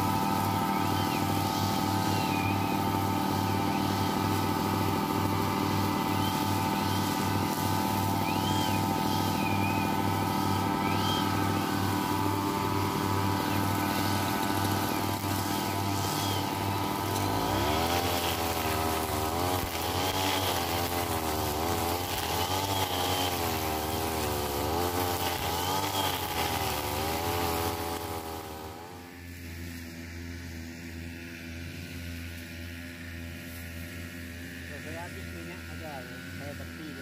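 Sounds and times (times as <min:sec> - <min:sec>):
brush cutter engine running: 0:00.0 - 0:37.0.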